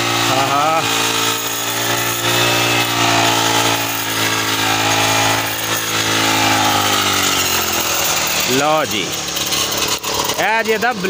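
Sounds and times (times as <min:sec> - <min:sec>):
brush cutter engine running: 0:00.0 - 0:11.0.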